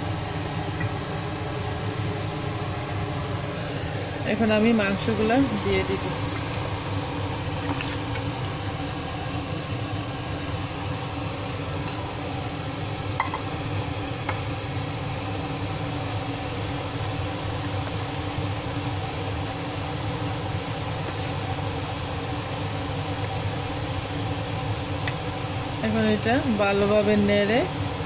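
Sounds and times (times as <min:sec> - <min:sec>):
steady hum and hiss: 0:00.0 - 0:28.0.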